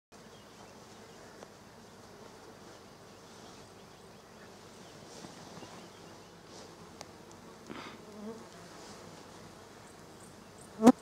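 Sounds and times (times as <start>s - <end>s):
flying insects buzzing: 0.2s - 11.0s.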